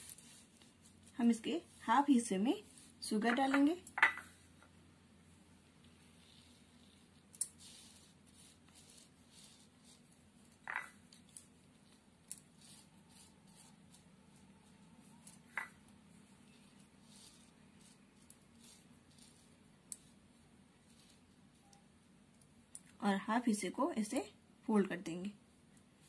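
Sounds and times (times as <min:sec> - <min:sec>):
sugar sprinkled on dough: 0:00.0 - 0:23.0.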